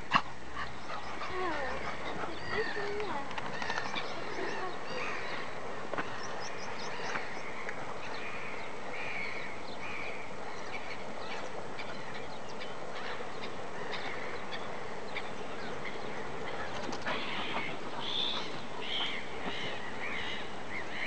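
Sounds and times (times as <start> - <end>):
steady outdoor hiss: 0.0 - 21.0
birds calling: 0.1 - 21.0.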